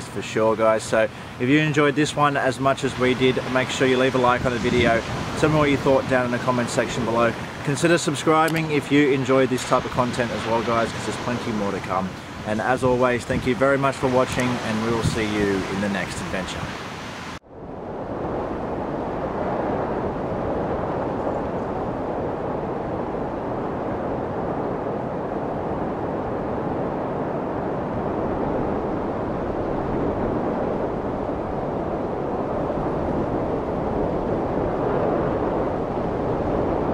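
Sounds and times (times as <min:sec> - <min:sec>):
steady rushing noise: 0:00.0 - 0:36.9.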